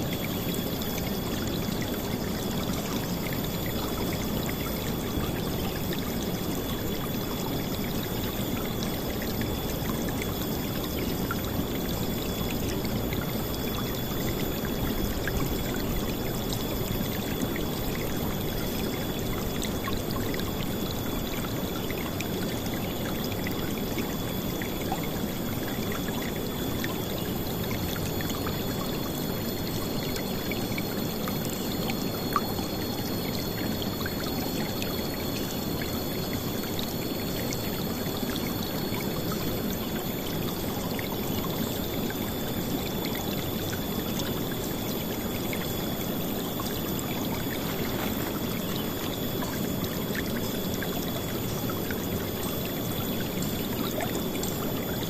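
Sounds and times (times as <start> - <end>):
thin high tone: 0.0 - 55.0.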